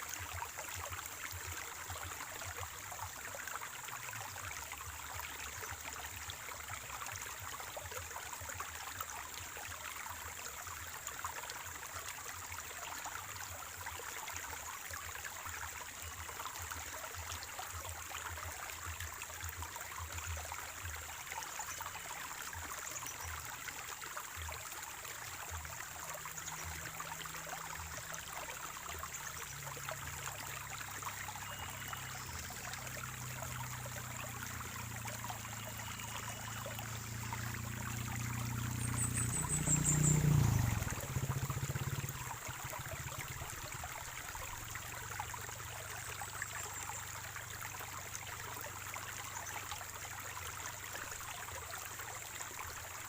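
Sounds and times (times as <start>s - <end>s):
stream trickling over stones: 0.0s - 53.0s.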